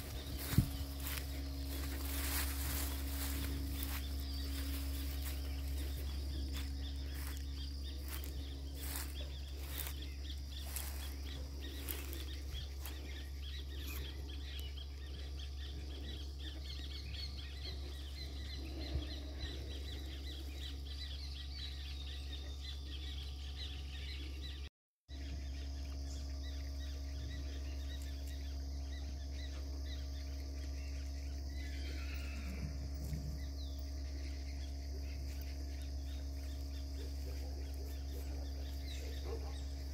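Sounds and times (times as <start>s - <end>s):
insects chirring: 0.0s - 24.5s, 25.1s - 39.9s
constant low hum: 0.0s - 39.9s.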